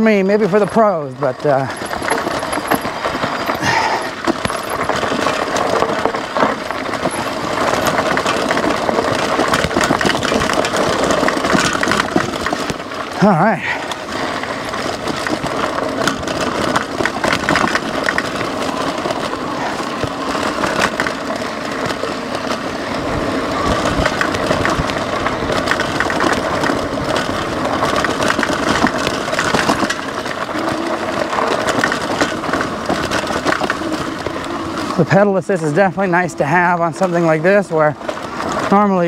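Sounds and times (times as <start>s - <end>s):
bike clattering and rattling: 0.0s - 39.0s
tyres crunching over gravel: 0.0s - 39.0s.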